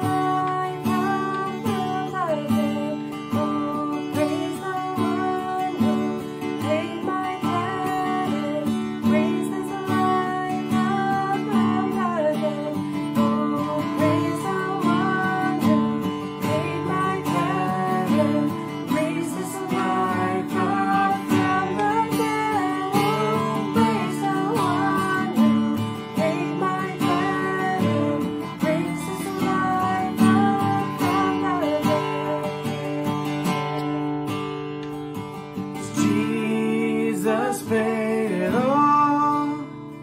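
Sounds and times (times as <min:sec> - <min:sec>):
woman singing: 0:00.0 - 0:33.9, 0:35.8 - 0:40.0
acoustic guitar strumming: 0:00.0 - 0:40.0.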